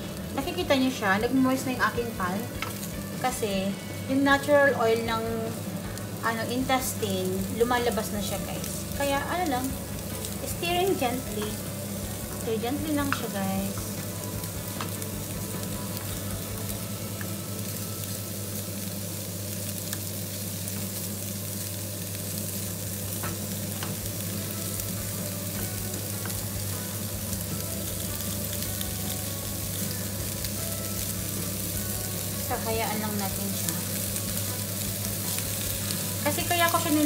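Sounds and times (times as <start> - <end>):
meat sizzling in a pan: 0.0 - 37.0.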